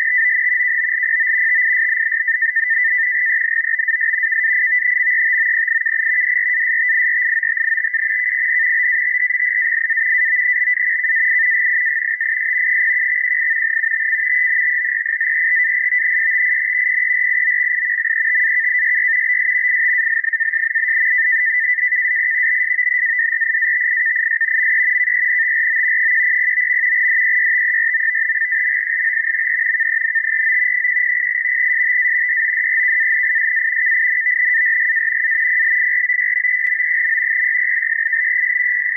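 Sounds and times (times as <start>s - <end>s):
two-tone data warble: 0.0s - 38.9s.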